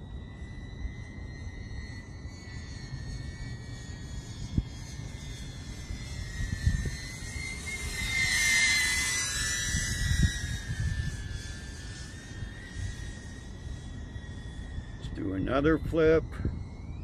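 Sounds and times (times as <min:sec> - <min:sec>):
drone propellers whining: 0:00.0 - 0:17.0
wind rumble on microphone: 0:00.0 - 0:17.0.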